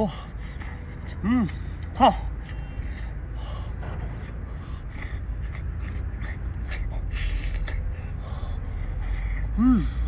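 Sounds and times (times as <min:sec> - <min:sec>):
steady low rumble: 0:00.0 - 0:10.0
man chewing and smacking: 0:00.2 - 0:09.6.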